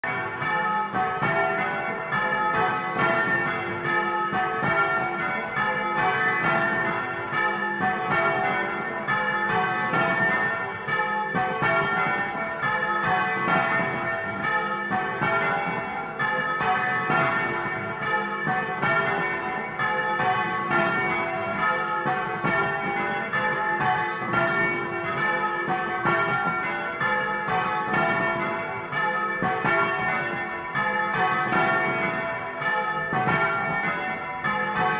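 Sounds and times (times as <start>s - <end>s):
church bells ringing: 0.0s - 34.9s.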